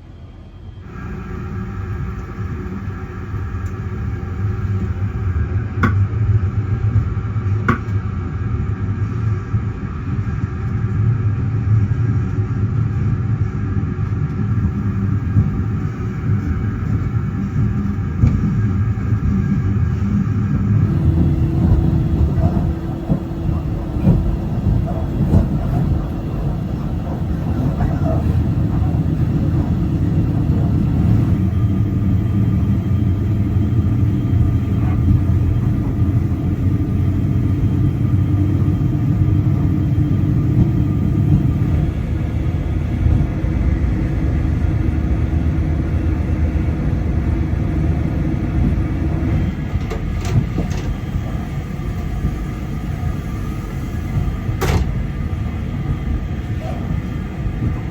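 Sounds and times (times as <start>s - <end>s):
low train hum: 0.0s - 57.9s
train running rumble: 0.0s - 57.9s.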